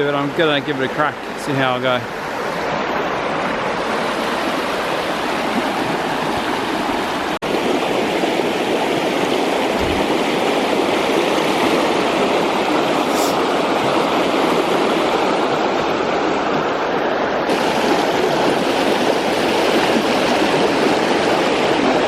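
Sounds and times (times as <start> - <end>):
creek rushing over rocks: 0.0 - 22.0.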